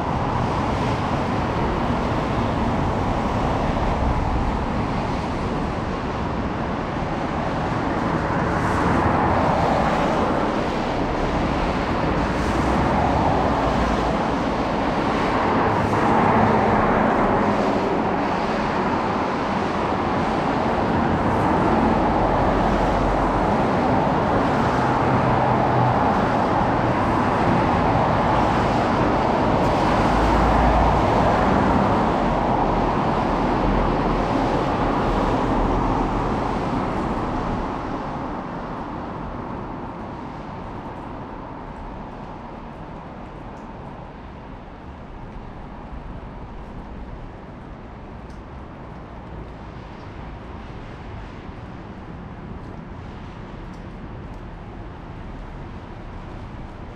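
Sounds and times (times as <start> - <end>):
road traffic on a wet street: 0.0 - 56.9.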